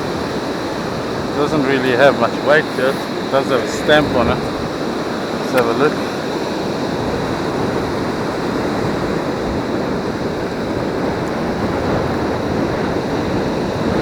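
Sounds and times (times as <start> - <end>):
ocean waves washing on beach: 0.0 - 14.0.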